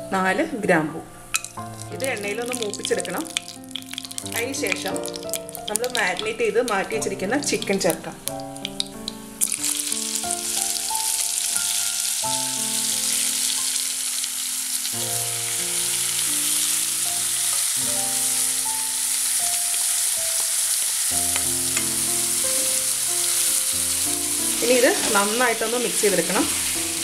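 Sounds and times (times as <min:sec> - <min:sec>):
soft background music: 0:00.0 - 0:27.0
chicken sizzling in oil: 0:01.2 - 0:27.0.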